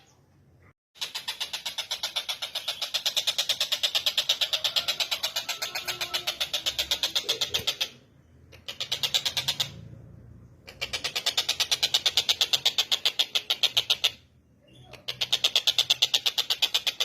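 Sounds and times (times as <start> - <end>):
bird calling in rapid trill: 1.0 - 9.8, 10.7 - 17.0.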